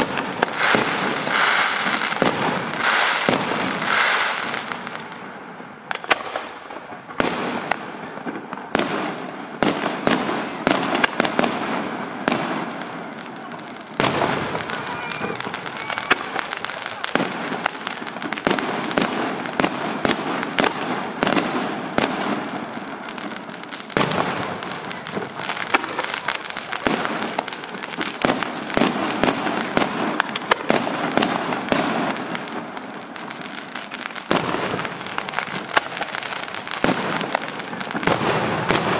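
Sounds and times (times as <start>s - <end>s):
fireworks bursting bangs: 0.0s - 38.9s.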